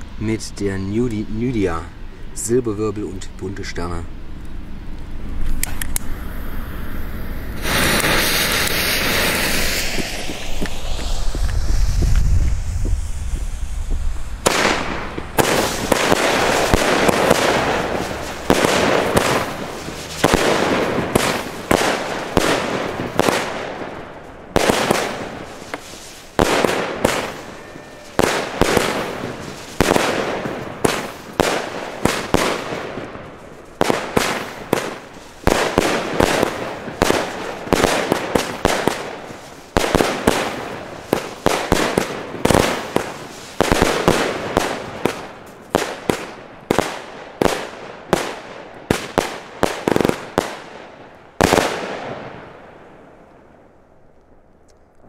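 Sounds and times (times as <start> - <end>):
small firework reports: 0.0 - 4.4, 5.4 - 50.7
fireworks bangs: 4.7 - 53.7.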